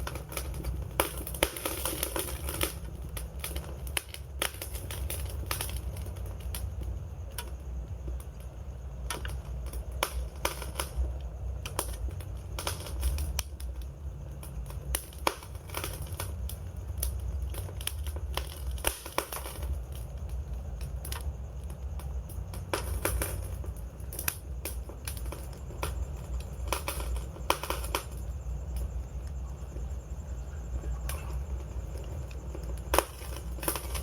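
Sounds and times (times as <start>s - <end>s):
campfire crackling and popping: 0.0s - 34.0s
fire low rumble: 0.0s - 34.0s.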